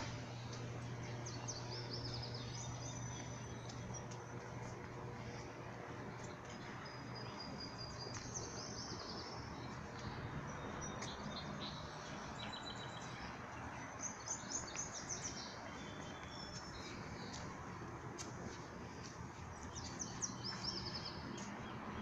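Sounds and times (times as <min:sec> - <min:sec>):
low background hum: 0:00.0 - 0:22.0
small birds chirping and trilling: 0:00.0 - 0:22.0.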